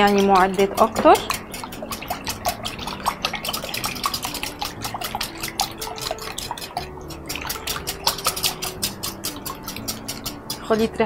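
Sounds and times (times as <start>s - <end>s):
whisk clicking against glass bowl: 0.0s - 11.0s.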